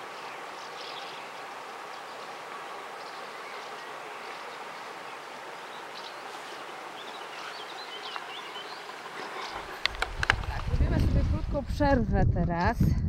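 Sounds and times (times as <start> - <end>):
outdoor hiss: 0.0 - 10.8
birds chirping: 0.0 - 12.0.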